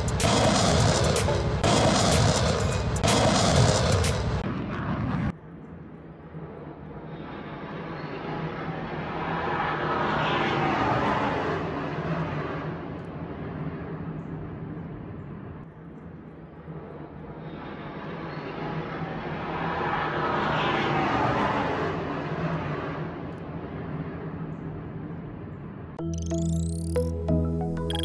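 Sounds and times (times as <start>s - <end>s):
airplane passing overhead: 0.0s - 26.0s.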